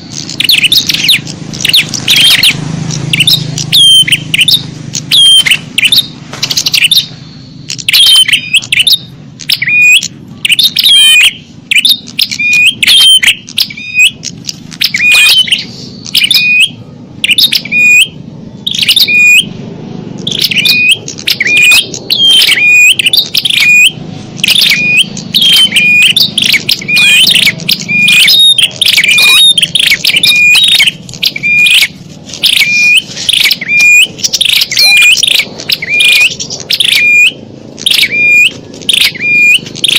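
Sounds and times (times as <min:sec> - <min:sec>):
songbird chirps: 0:00.0 - 0:39.9.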